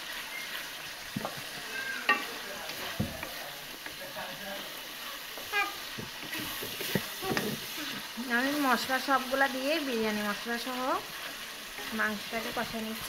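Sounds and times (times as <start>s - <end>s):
meat sizzling in a wok: 0.0s - 13.0s
spatula scraping a pan: 0.2s - 13.0s.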